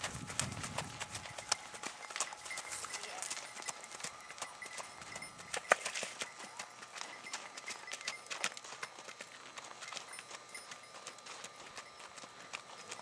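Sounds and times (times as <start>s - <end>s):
horse hooves on gravel: 0.0s - 13.0s.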